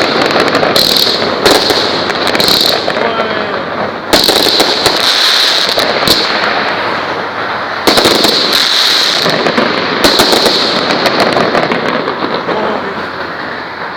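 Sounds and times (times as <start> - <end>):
fireworks barrage: 0.0 - 13.9.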